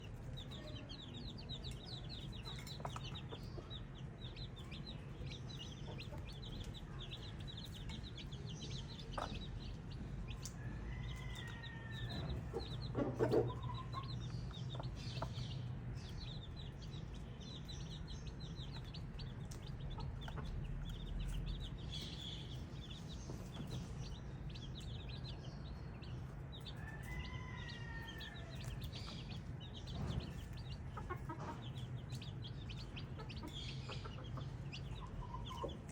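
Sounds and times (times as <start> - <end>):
baby chicks peeping: 0.0 - 35.9.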